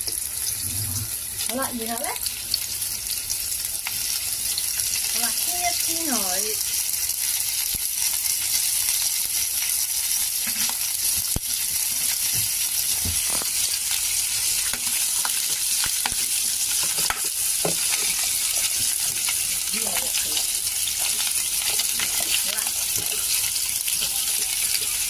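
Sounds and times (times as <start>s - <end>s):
meat sizzling in hot oil: 0.0s - 25.0s
oil crackling and popping: 0.0s - 25.0s.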